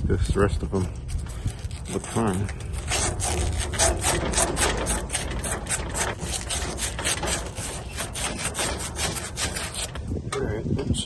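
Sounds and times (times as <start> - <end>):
abrasive scraping on copper pipe: 0.3 - 11.0.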